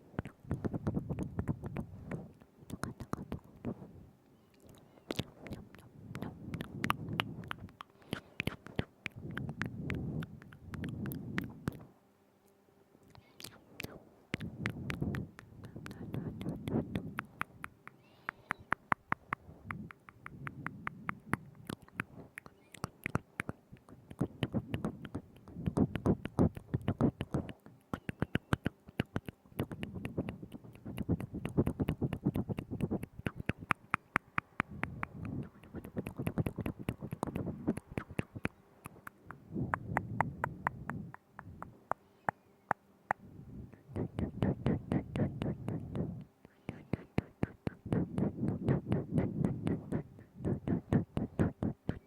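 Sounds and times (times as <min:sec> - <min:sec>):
wet mouth clicks and smacks: 0:00.2 - 0:03.8, 0:04.6 - 0:11.9, 0:13.1 - 0:52.0.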